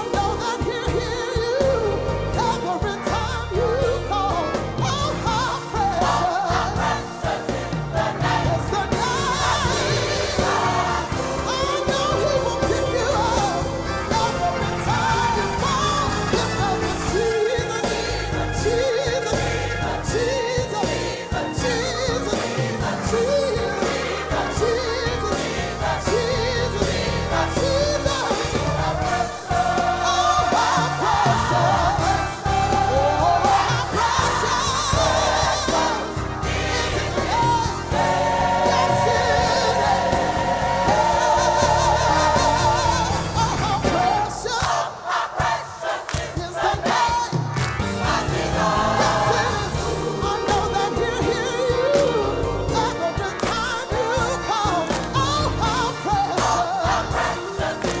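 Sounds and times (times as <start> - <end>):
gospel choir singing: 0.0 - 58.0.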